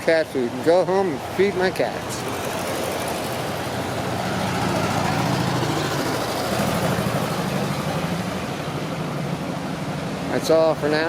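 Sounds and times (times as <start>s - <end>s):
street traffic: 0.0s - 11.0s
vehicle engine running: 0.4s - 10.4s.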